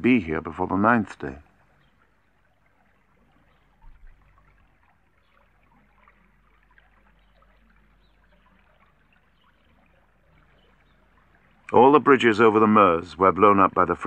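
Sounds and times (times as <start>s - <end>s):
river water trickling and lapping: 0.0s - 14.0s.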